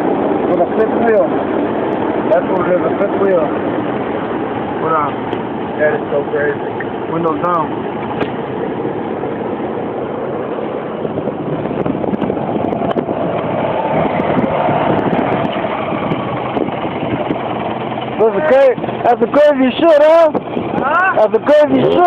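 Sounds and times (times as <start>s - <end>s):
car engine: 0.0s - 22.0s
road noise: 0.0s - 22.0s.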